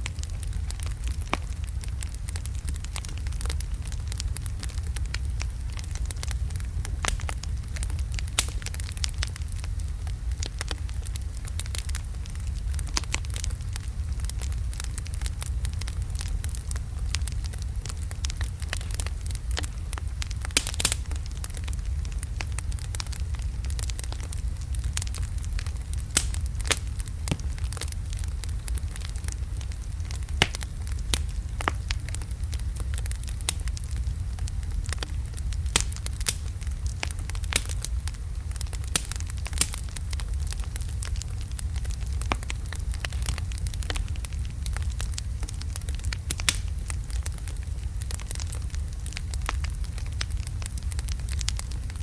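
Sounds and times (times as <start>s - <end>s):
low rumble of flames: 0.0s - 52.0s
sharp pops from fire: 0.0s - 52.0s
wood fire crackling: 0.0s - 52.0s.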